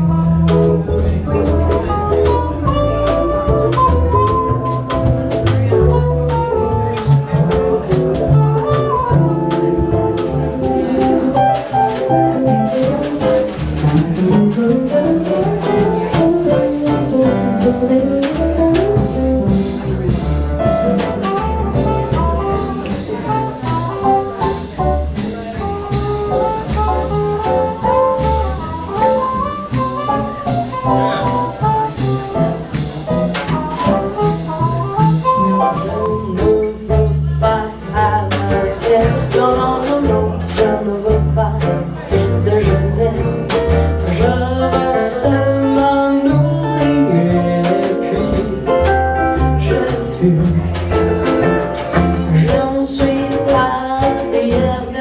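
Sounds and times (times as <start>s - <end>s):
swing jazz band playing: 0.0s - 55.0s.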